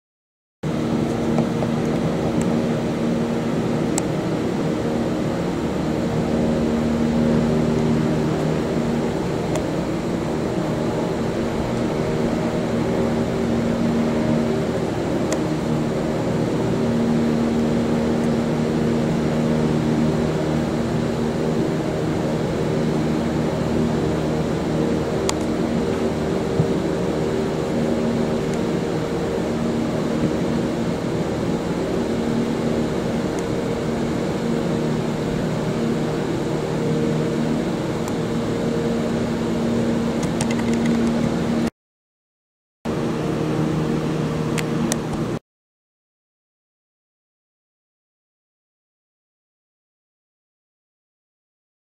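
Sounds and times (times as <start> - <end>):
motor humming steadily: 0.7 - 41.7, 42.9 - 45.4.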